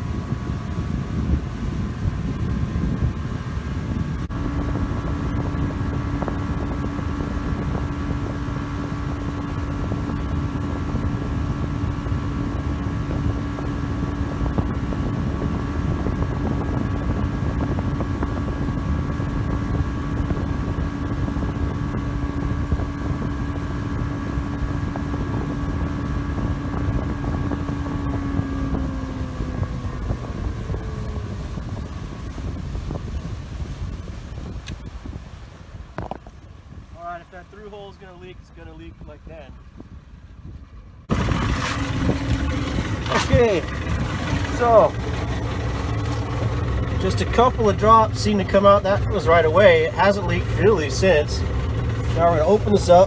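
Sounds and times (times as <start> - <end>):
motorboat engine running: 0.0 - 53.0
wind buffeting microphone: 0.0 - 53.0.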